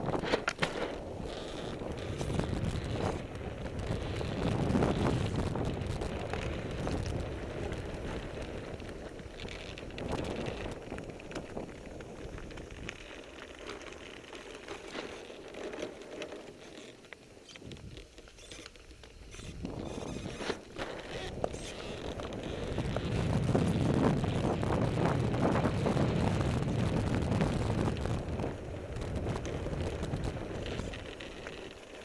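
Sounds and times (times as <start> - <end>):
small crackling clicks: 0.0 - 32.0
wheels rolling on wet sand: 0.0 - 32.0.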